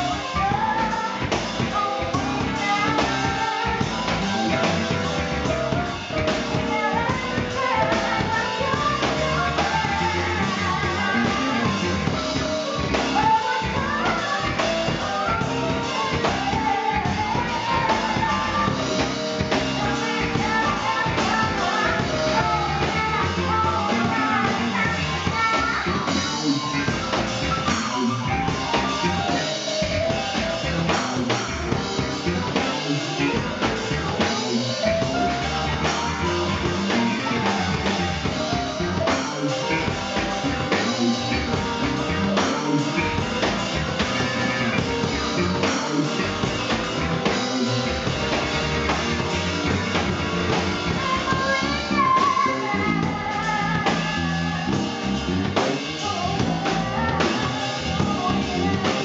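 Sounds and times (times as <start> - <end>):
drum kit: 0.0 - 59.0
electric bass guitar: 0.0 - 59.0
electric keyboard: 0.0 - 59.0.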